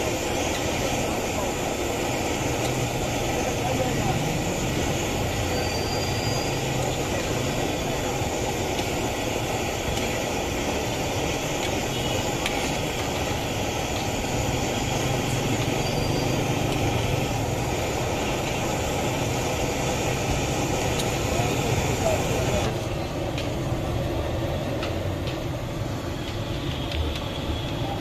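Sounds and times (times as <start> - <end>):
food deep-frying in oil: 0.0 - 28.0.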